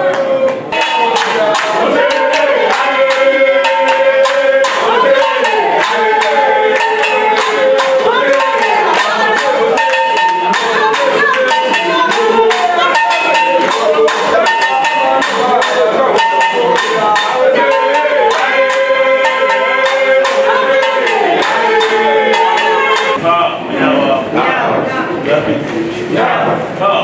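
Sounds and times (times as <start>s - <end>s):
hand claps and percussion: 0.0s - 23.2s
group singing: 0.0s - 27.0s.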